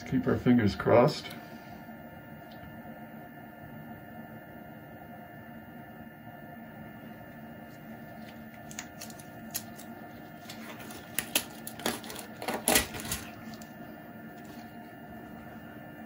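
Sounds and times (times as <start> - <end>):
resin printer humming: 0.0 - 16.0.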